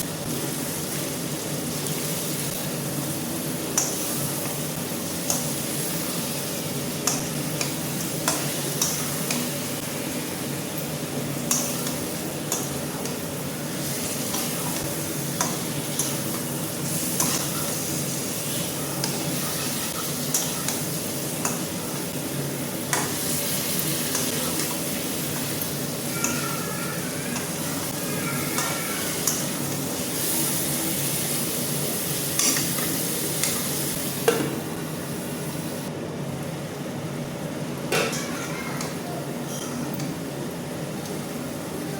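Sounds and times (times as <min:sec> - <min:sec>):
chicken sizzling in a pan: 0:00.0 - 0:35.9.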